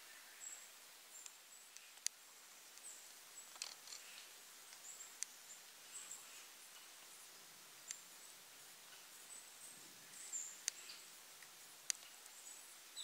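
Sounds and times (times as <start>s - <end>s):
soft forest hiss: 0.0s - 13.0s
songbirds chirping: 0.0s - 13.0s.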